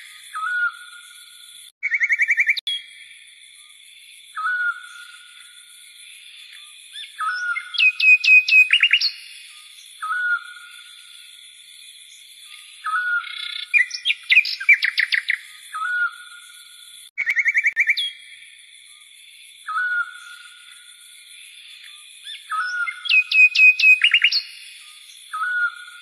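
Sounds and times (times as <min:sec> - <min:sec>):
small birds singing: 0:00.0 - 0:26.0.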